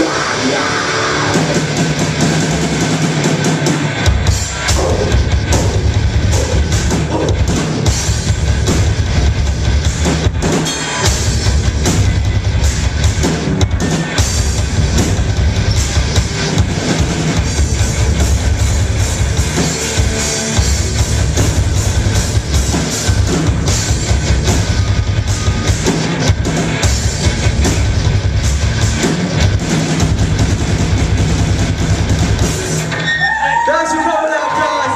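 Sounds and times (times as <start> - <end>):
drums hitting hard: 0.0 - 34.9
rock band playing live: 0.0 - 34.9.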